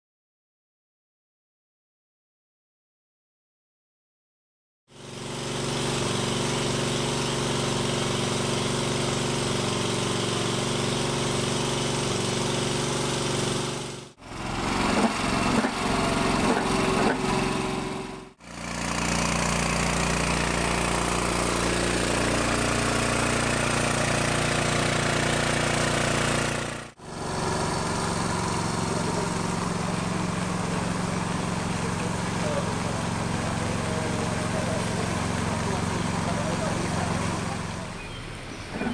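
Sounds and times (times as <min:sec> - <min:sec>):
motor pump running: 0:04.9 - 0:38.9.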